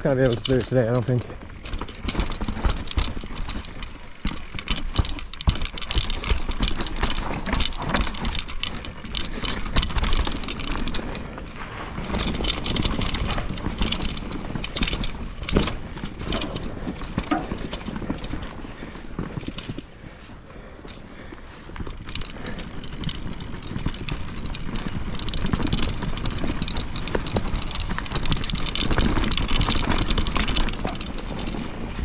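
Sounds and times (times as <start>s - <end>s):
bike clattering over roots: 0.0s - 32.0s
bike tyre rushing on trail: 0.0s - 32.0s.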